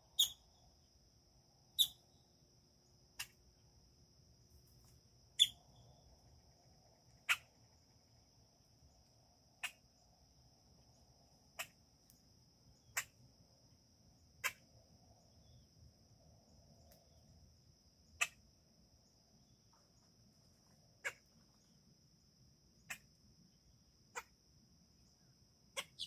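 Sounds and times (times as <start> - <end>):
faint high-pitched whine: 0.0 - 26.0.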